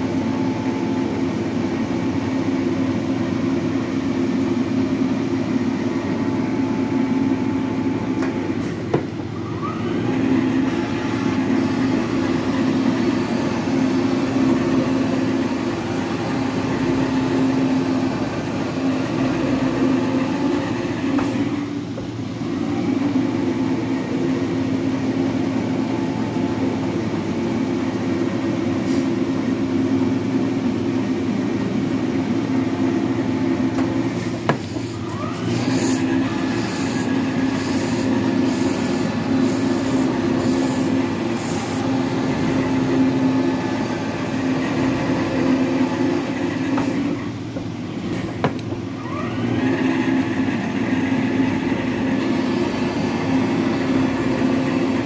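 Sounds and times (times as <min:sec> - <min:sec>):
metal planer machine drone: 0:00.0 - 0:55.0
motor drive whine: 0:00.0 - 0:55.0.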